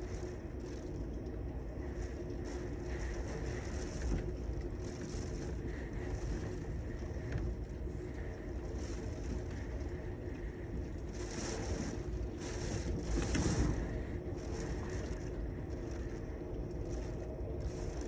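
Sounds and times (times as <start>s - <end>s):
constant low hum: 0.0s - 18.0s
steady rain: 0.0s - 18.0s.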